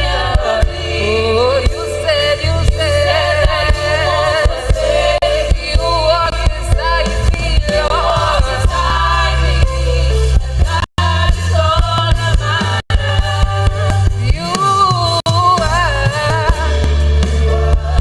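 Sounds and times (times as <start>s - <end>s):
drum hits: 0.0s - 1.0s, 1.6s - 18.0s
gospel band playing: 0.0s - 18.0s
heavy bass: 0.0s - 18.0s.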